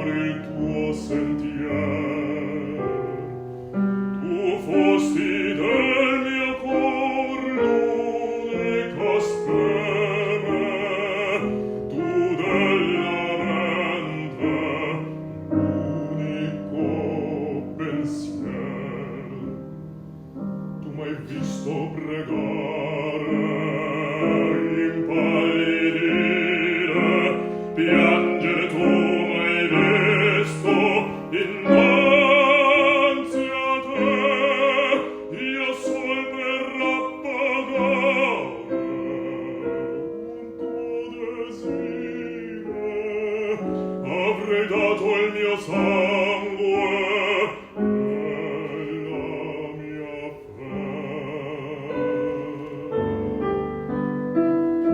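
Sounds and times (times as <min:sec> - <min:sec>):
bass singing operatically: 0:00.0 - 0:54.9
piano accompaniment: 0:00.0 - 0:54.9.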